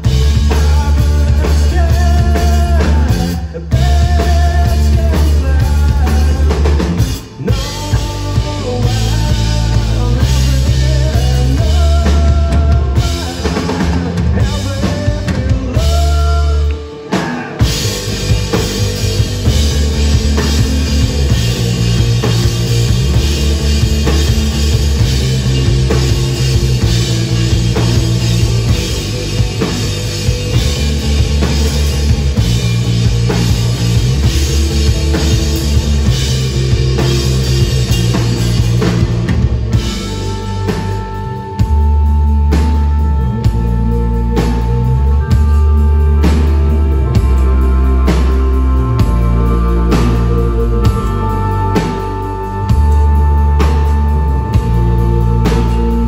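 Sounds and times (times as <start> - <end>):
bending lead guitar: 0.0 - 56.0
drum kit: 0.0 - 56.0
heavy bass: 0.0 - 56.0
rock band playing live: 0.0 - 56.0.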